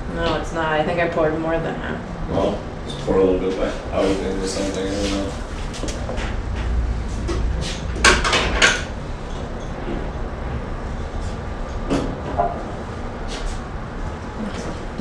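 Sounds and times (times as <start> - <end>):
low rumble: 0.0 - 12.9.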